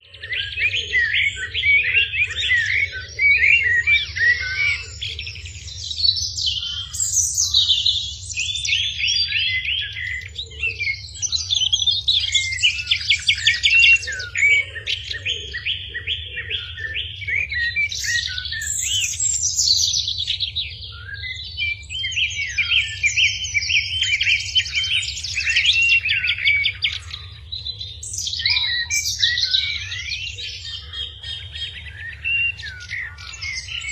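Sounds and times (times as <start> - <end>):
songbird trilling and chirping: 0.0 - 33.9.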